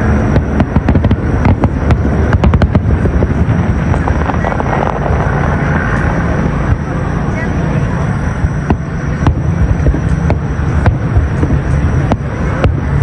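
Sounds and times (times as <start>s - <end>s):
fireworks crackling pops: 0.0s - 7.0s, 8.4s - 13.0s
low rumble of firework bursts: 0.0s - 13.0s.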